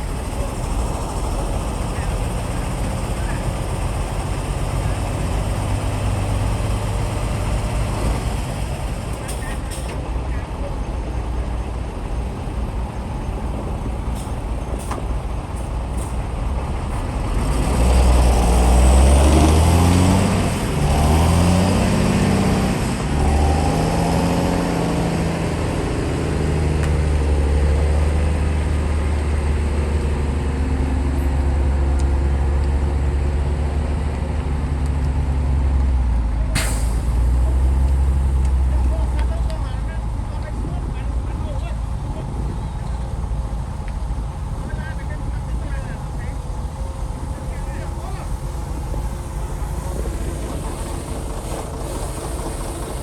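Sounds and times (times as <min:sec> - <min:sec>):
bulldozer engine revving: 0:00.0 - 0:53.0.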